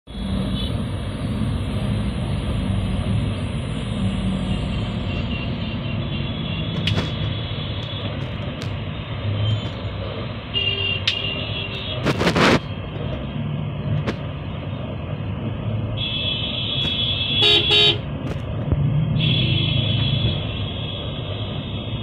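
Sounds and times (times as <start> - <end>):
car road and engine rumble: 0.1 - 22.0.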